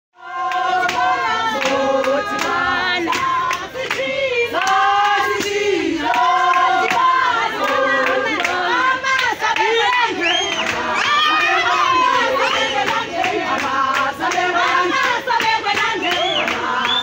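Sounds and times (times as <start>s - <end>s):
women singing in harmony: 0.2s - 17.0s.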